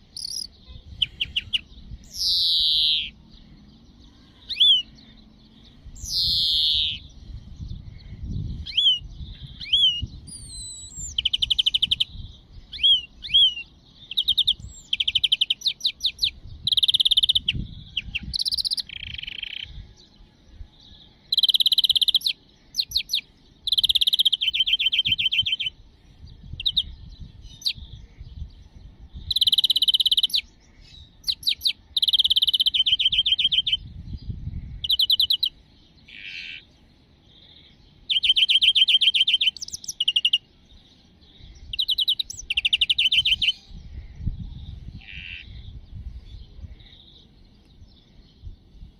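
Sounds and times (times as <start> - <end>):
greenfinch singing rattling trills: 0.0 - 20.1, 20.7 - 48.9.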